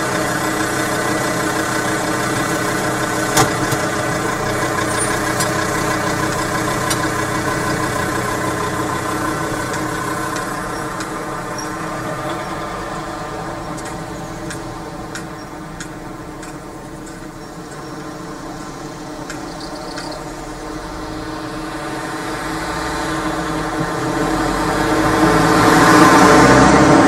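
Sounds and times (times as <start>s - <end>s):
car engines of passing traffic: 0.0s - 27.0s
van engine approaching: 0.0s - 27.0s.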